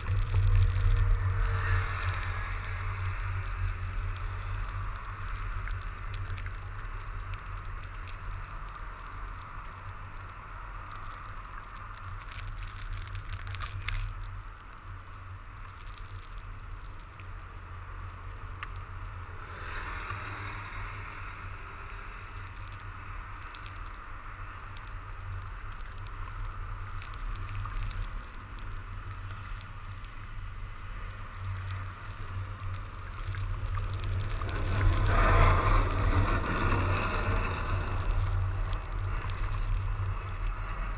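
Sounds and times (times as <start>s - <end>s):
bike tyres through snow and slush: 0.0s - 40.9s
low rumble: 0.0s - 40.9s.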